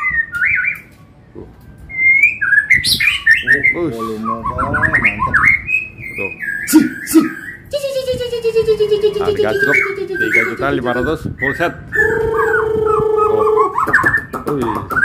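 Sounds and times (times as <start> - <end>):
bird singing whistled phrases: 0.0 - 7.9, 9.1 - 15.0.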